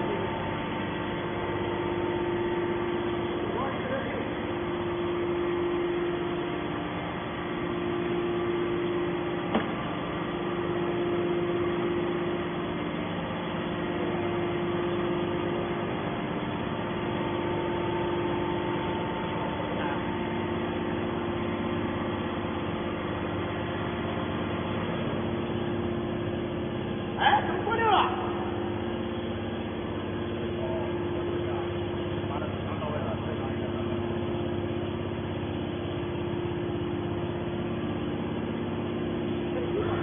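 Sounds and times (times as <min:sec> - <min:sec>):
baler motor and pump humming: 0:00.0 - 0:40.0.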